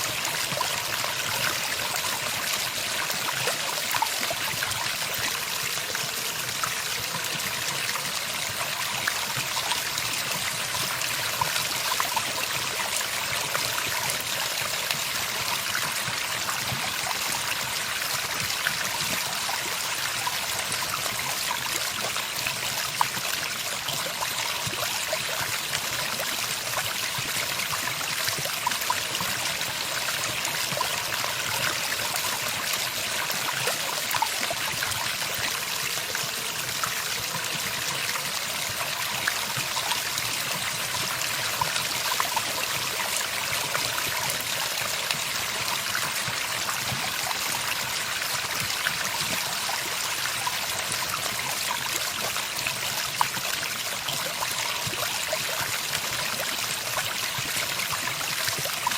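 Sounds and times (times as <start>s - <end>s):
trickling stream: 0.0s - 58.9s.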